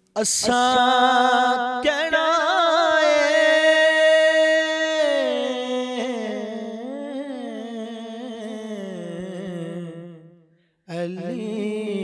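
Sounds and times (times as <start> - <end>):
man singing unaccompanied: 0.0 - 10.2, 10.9 - 12.0.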